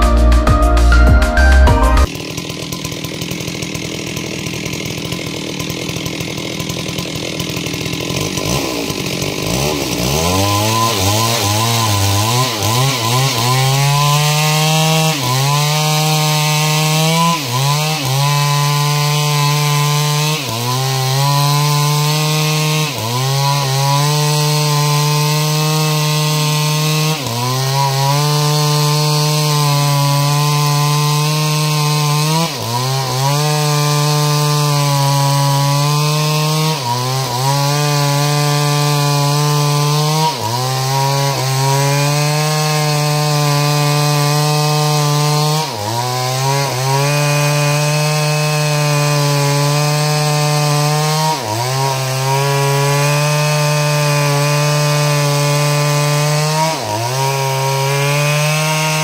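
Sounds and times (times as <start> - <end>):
chainsaw cutting timber: 0.0 - 59.0.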